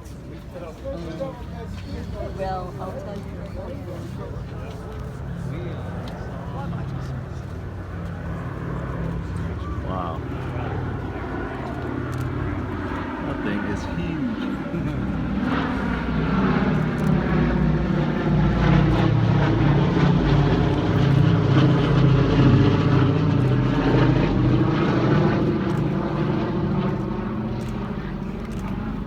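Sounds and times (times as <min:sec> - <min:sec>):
propeller plane droning past: 0:00.0 - 0:29.0.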